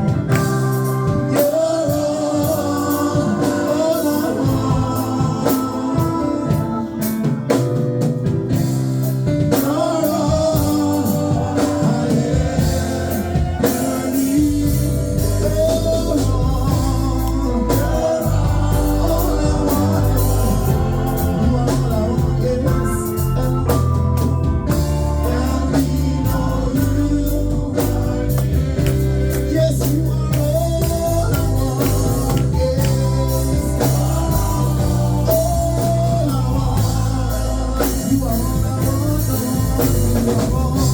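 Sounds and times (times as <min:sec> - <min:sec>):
bass and drums: 0:00.0 - 0:40.9
gospel singing: 0:00.0 - 0:40.9
organ: 0:00.0 - 0:40.9.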